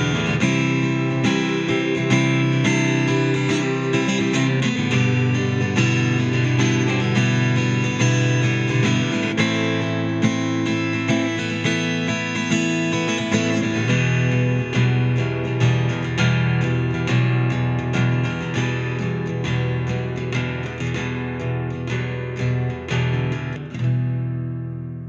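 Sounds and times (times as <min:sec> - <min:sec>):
electro-acoustic guitar music: 0:00.0 - 0:25.0.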